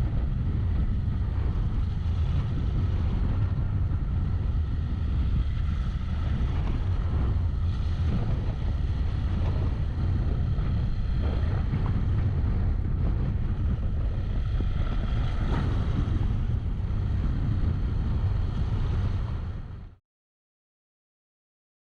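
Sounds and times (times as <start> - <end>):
motorcycle engine noise: 0.0 - 20.0
wind rumble on microphone: 0.0 - 20.0.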